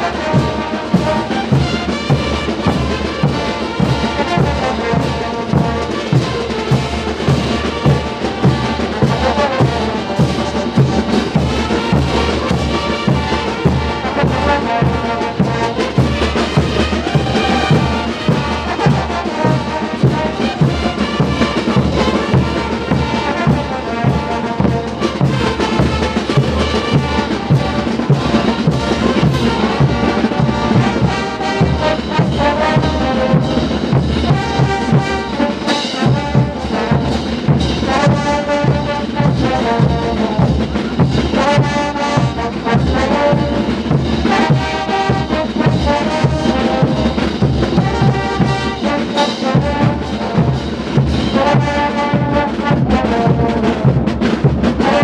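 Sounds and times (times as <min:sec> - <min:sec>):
brass band playing dance music: 0:00.0 - 0:55.0.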